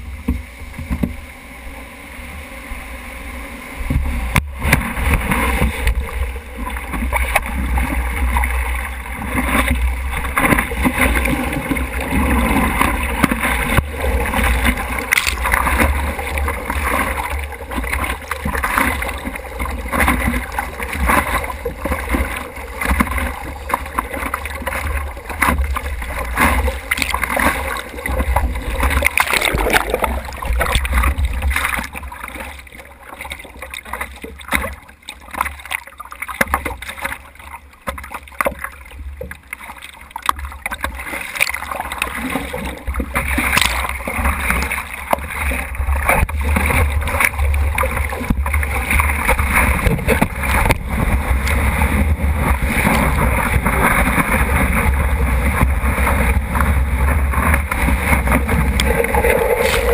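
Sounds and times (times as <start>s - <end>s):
deep rumble of water buffeting: 0.0s - 59.9s
water rushing over camera: 0.0s - 59.9s.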